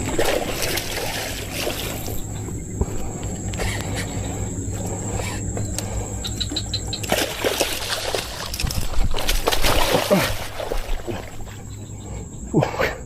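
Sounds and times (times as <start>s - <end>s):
water splashing and sloshing: 0.0s - 12.8s
steady low hum: 0.0s - 13.0s.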